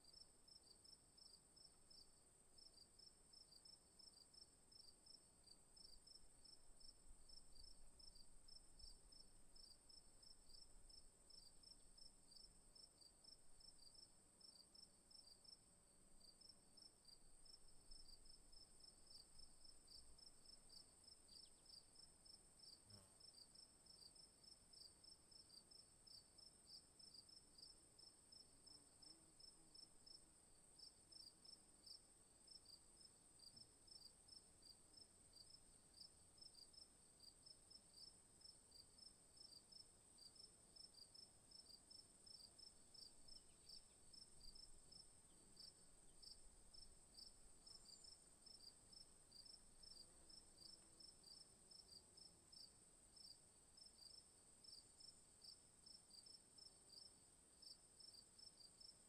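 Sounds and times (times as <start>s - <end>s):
crickets chirping: 0.1s - 59.0s
night insects droning: 0.1s - 59.0s.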